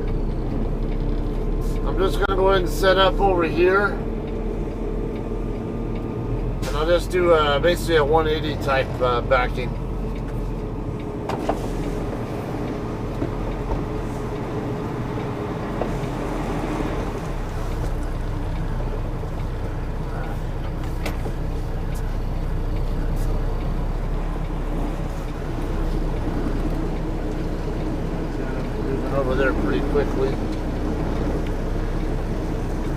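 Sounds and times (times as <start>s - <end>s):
diesel truck engine running: 0.0s - 32.9s.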